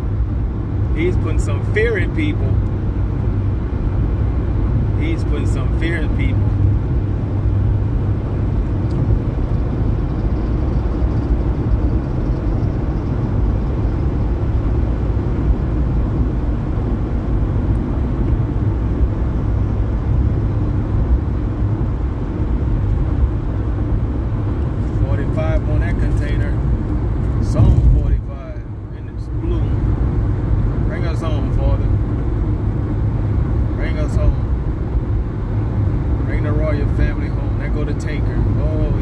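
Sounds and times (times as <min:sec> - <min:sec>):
car cabin road noise: 0:00.0 - 0:39.0.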